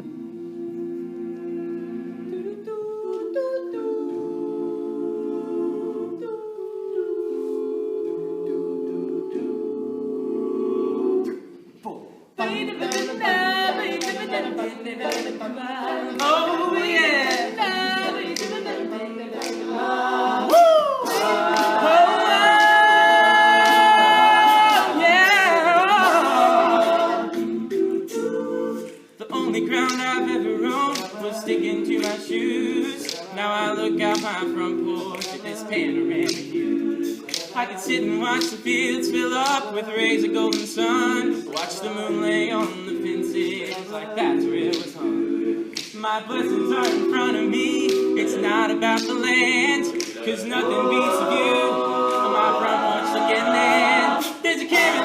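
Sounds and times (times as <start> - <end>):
male vocal group singing: 0.0 - 55.0.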